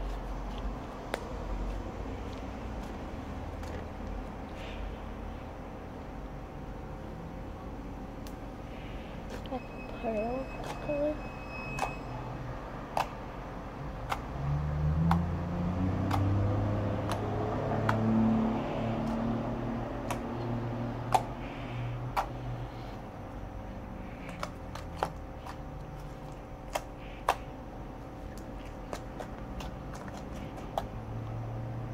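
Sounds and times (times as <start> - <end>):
low humming rumble: 0.0 - 31.9.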